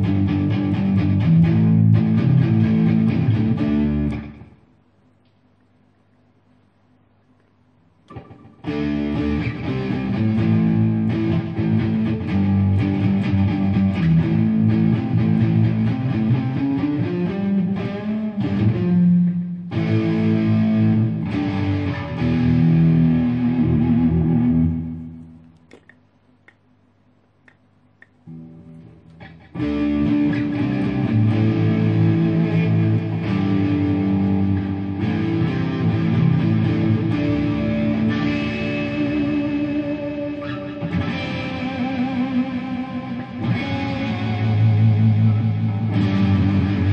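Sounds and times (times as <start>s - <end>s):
distorted electric guitar with delay: 0.0s - 4.7s, 8.1s - 25.4s, 28.3s - 46.9s.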